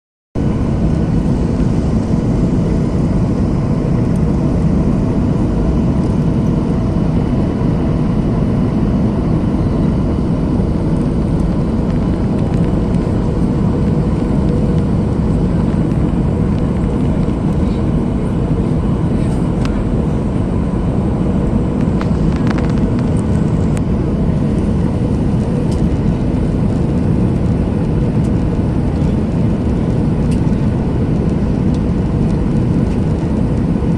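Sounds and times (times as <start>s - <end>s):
jet airliner landing: 0.4s - 33.9s.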